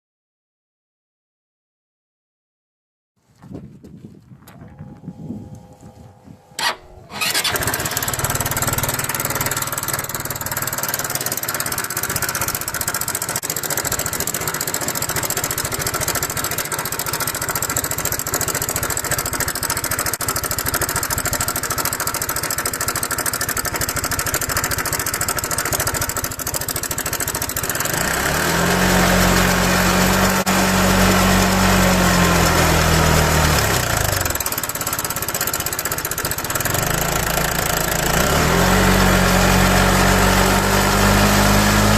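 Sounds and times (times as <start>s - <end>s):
loud mechanical rattling noise: 6.6s - 41.9s
scooter engine running: 6.6s - 41.9s.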